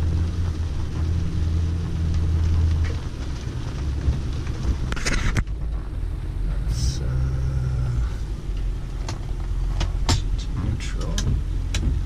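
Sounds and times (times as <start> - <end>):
diesel engine drone from inside cab: 0.0 - 12.0
noisy rustle: 0.0 - 12.0.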